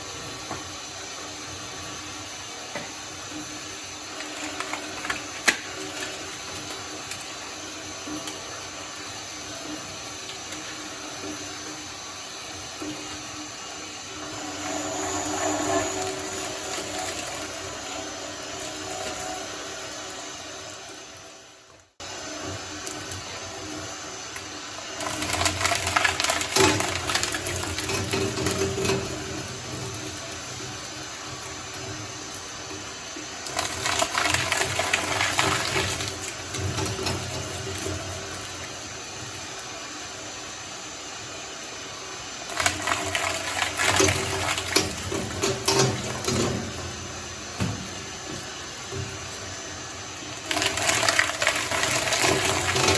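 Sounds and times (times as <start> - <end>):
shredder motor running: 0.0 - 40.4, 42.0 - 52.9.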